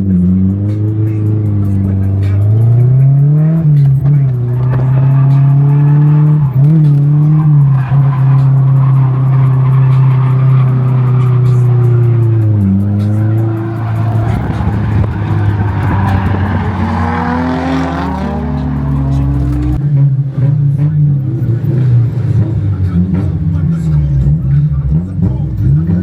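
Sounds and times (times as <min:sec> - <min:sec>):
car engine at high revs: 0:00.0 - 0:26.0
tyres squealing and skidding: 0:00.6 - 0:26.0.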